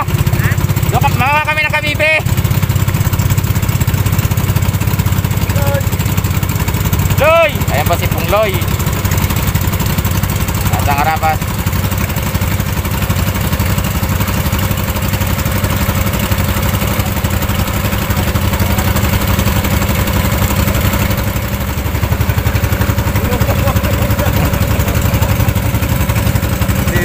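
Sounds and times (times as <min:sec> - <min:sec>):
boat wake rushing through water: 0:00.0 - 0:27.0
motorboat engine running: 0:00.0 - 0:27.0.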